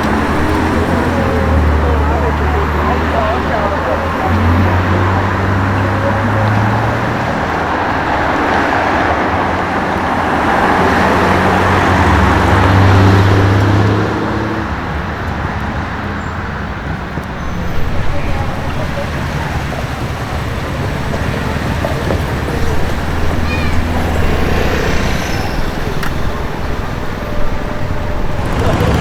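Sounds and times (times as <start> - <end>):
car engine passing: 0.0 - 29.0
road noise: 0.0 - 29.0.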